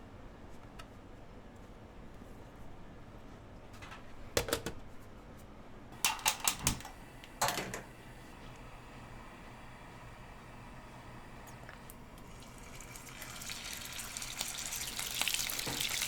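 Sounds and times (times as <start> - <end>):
low steady hum: 0.0 - 15.1.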